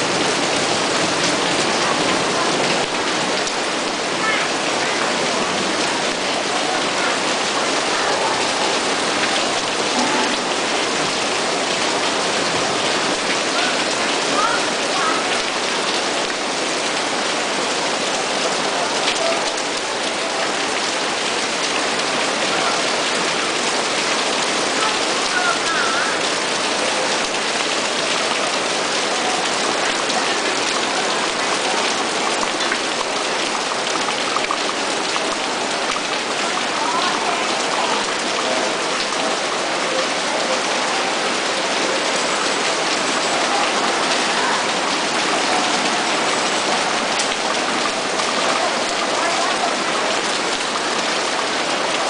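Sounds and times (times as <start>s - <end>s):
heavy rain on tent and road: 0.0s - 52.0s.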